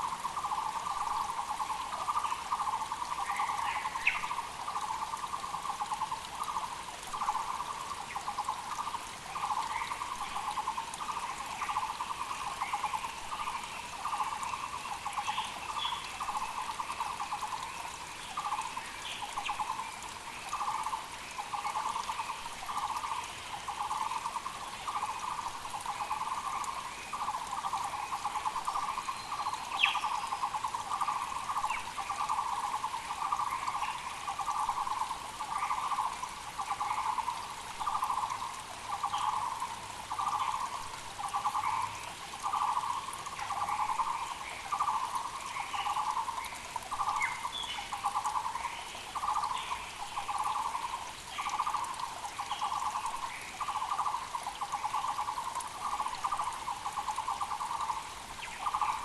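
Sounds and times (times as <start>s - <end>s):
creek hissing: 0.0s - 59.0s
small birds chirping: 0.0s - 59.0s.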